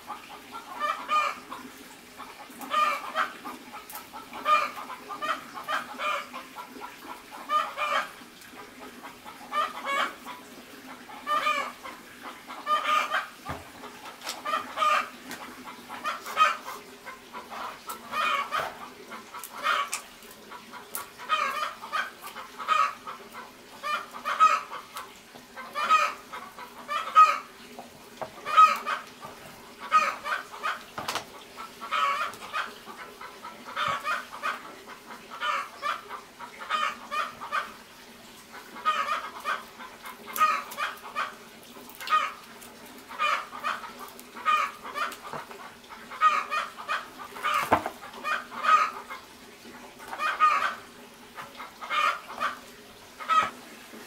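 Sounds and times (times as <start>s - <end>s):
chicken clucking: 0.1s - 25.0s, 25.6s - 27.5s, 28.3s - 37.8s, 38.5s - 41.4s, 42.0s - 42.4s, 43.1s - 49.2s, 50.0s - 50.8s, 51.4s - 52.6s, 53.2s - 53.6s.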